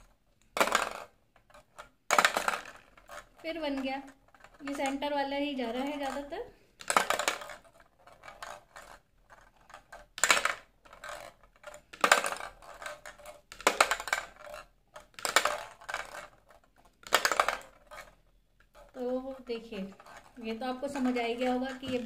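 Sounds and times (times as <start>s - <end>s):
plastic balls rattling on steel tray: 0.0s - 22.0s.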